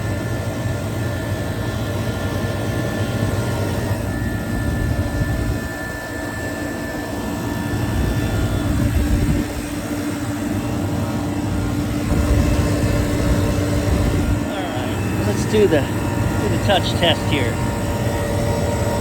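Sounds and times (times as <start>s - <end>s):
refrigeration unit humming: 0.0s - 19.0s.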